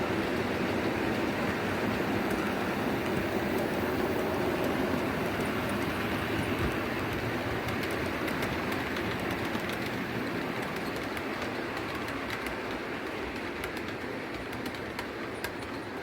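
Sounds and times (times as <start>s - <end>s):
model train wheels rumbling on rails: 0.0s - 16.0s.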